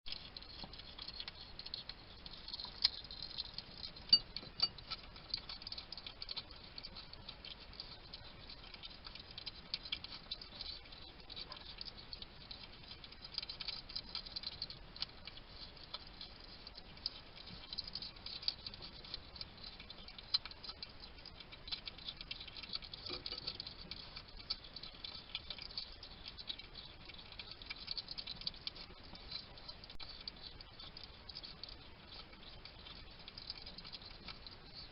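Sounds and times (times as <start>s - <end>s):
hedgehog chewing and crunching: 0.1s - 34.9s.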